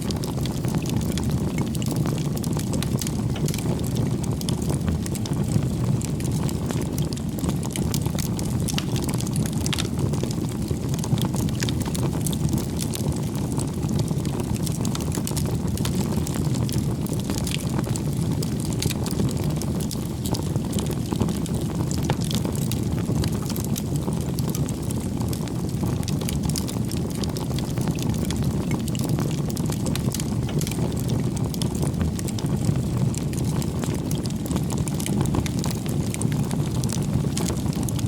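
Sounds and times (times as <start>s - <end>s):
firewood crackling and popping: 0.0s - 38.0s
rush of flames: 0.0s - 38.0s.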